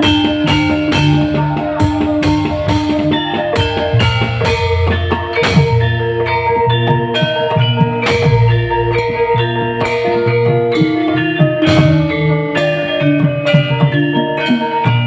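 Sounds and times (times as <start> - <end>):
drum hits: 0.0 - 6.2, 6.9 - 14.0
bass line: 0.0 - 14.2
melody of sustained notes: 0.0 - 15.0.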